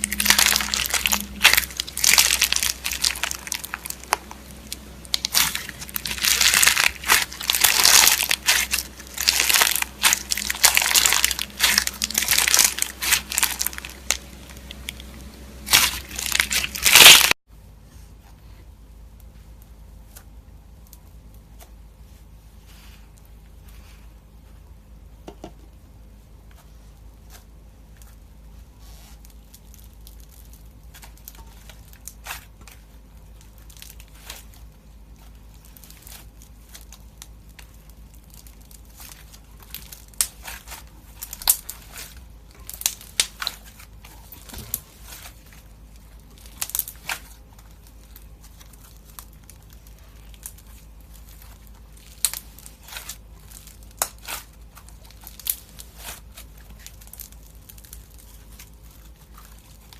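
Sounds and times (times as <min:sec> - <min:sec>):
crunchy slime crackling: 0:00.0 - 0:17.4, 0:26.6 - 0:59.9
faint low hum: 0:00.0 - 0:59.9.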